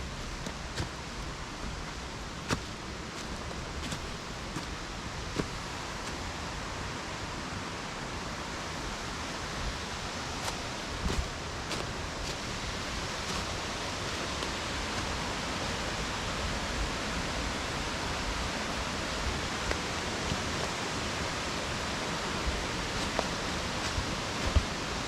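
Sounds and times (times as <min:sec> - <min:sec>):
mountain stream rushing: 0:00.0 - 0:25.0.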